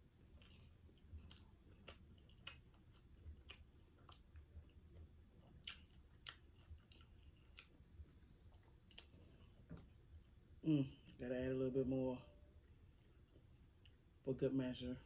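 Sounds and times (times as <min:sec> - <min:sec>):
close-up wet chewing: 0:00.0 - 0:11.2, 0:12.6 - 0:14.2.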